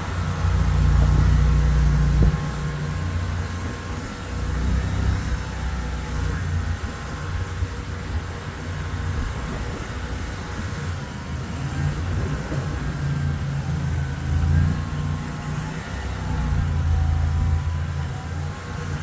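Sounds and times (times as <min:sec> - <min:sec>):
skid steer engine running: 0:00.0 - 0:19.0.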